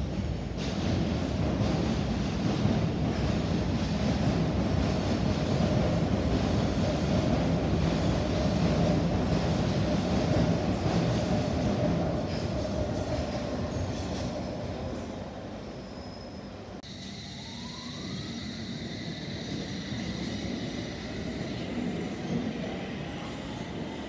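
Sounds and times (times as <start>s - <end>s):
train rumble on track: 0.0s - 24.0s.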